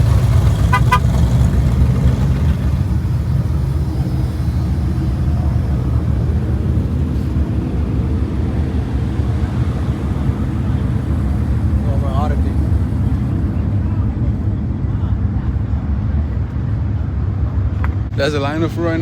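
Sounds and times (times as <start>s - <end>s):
vehicle engines idling: 0.0s - 19.0s.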